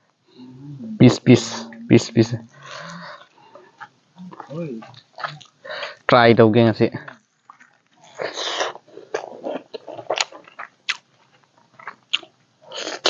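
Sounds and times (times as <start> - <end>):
person chewing: 0.3 - 6.1, 7.1 - 13.0.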